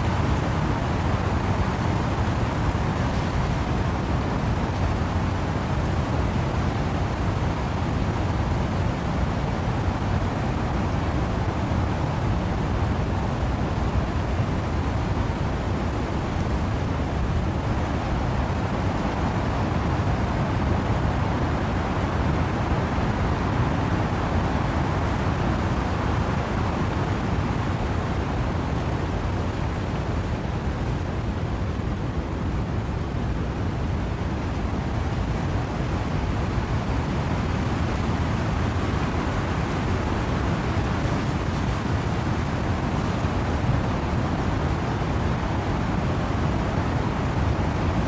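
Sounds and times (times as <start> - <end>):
wind and rain in trees: 0.0 - 48.0.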